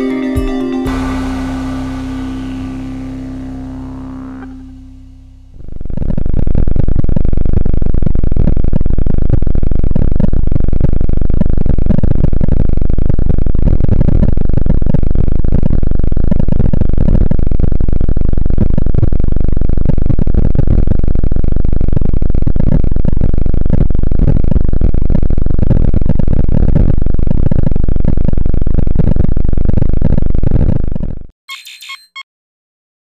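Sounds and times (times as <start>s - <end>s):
low flickering drone: 0.6s - 30.7s.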